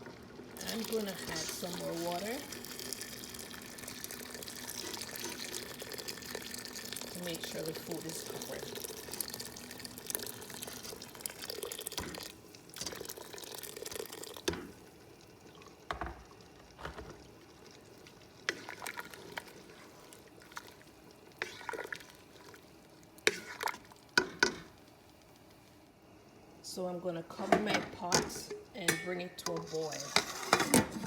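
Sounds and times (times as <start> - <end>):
water pouring into pot: 0.0 - 25.5.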